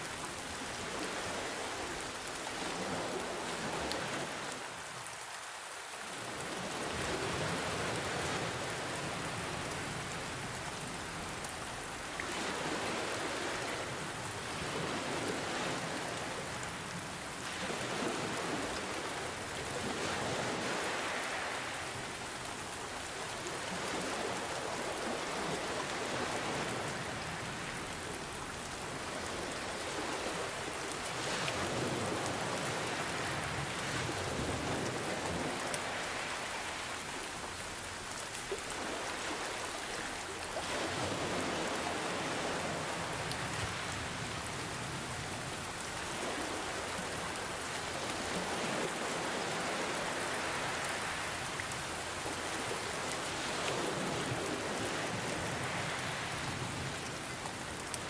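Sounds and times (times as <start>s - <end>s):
ocean waves: 0.0s - 58.0s
rain falling: 0.0s - 58.0s.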